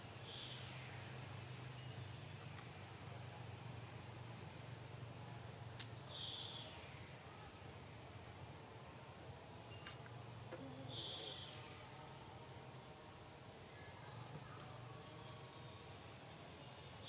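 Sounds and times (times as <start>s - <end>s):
faint low hum: 0.0s - 17.0s
insects trilling: 0.0s - 17.0s.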